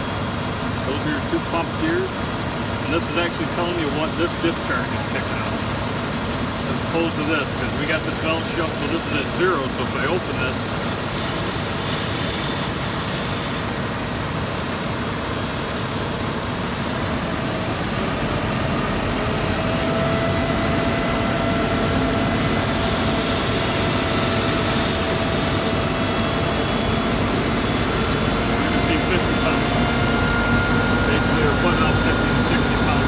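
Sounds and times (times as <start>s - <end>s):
fire engine motor and pump running: 0.0s - 33.0s
steady whine: 0.0s - 33.0s.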